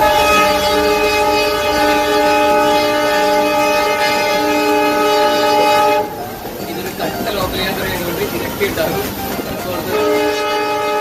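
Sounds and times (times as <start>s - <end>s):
locomotive air horn blast: 0.0s - 11.0s
train running noise: 0.0s - 11.0s.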